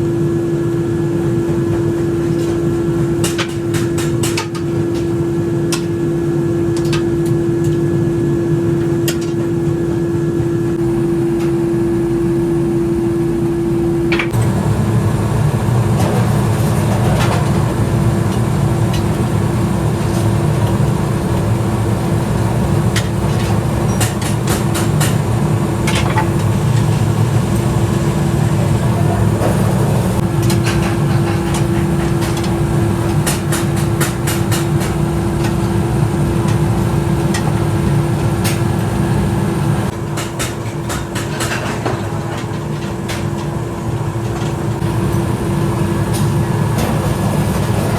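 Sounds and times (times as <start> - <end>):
workshop machinery rumble: 0.0 - 47.9.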